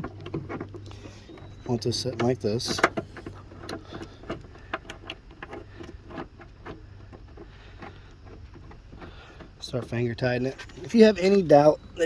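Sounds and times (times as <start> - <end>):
seatbelt hardware clicking: 0.0 - 11.0.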